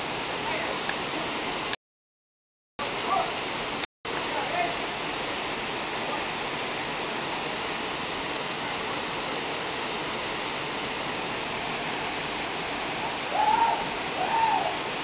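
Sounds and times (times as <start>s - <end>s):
waterfall rushing: 0.0s - 1.8s, 2.8s - 15.0s.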